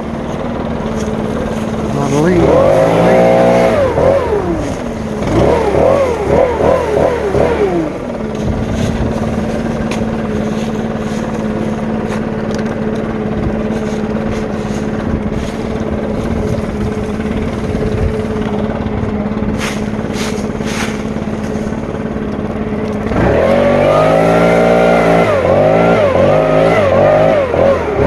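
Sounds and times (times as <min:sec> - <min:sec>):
leaf blower engine revving: 0:00.0 - 0:28.0.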